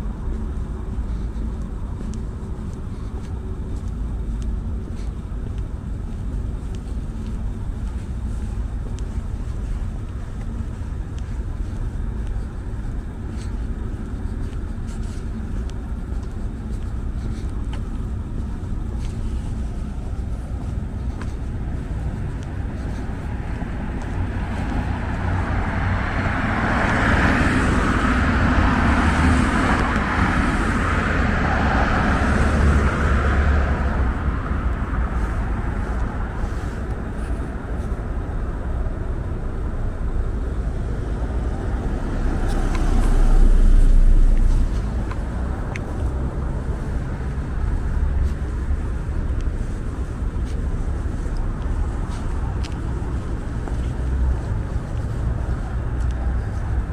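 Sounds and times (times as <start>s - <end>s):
deep rumble: 0.0s - 56.9s
traffic hum: 0.0s - 56.9s.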